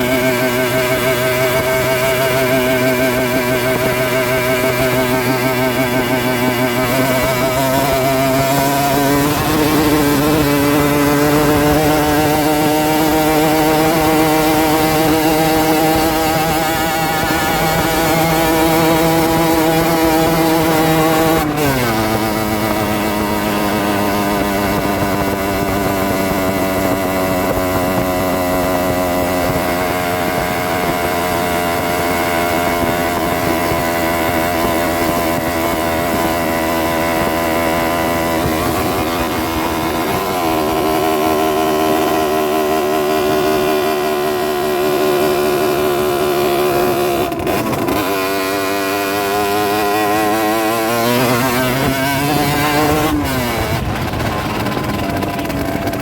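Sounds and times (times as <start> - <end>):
two-stroke motorbike engine: 0.0 - 56.0.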